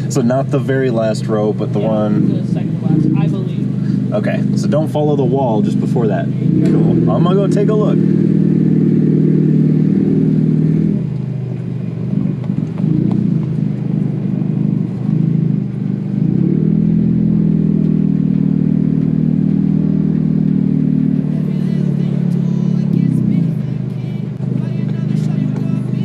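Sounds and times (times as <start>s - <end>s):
car engine running at low speed: 0.0s - 26.0s.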